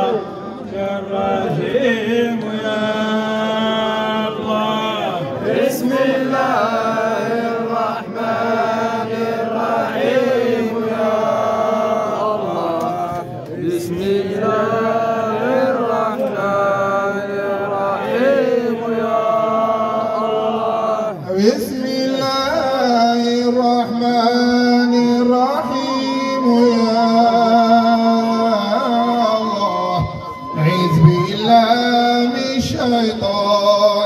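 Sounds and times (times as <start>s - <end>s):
man chanting into a microphone: 0.0s - 34.0s.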